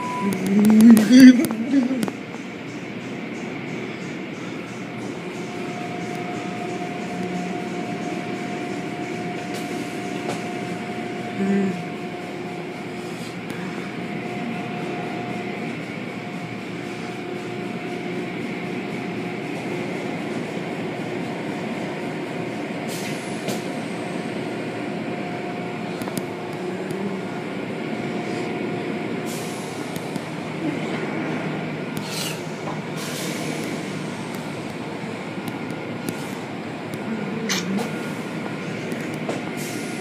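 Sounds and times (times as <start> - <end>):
machinery hum: 0.0 - 40.0.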